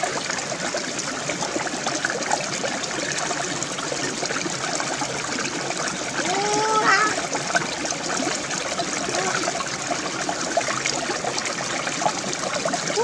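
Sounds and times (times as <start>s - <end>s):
stream rushing over stones: 0.0s - 13.0s.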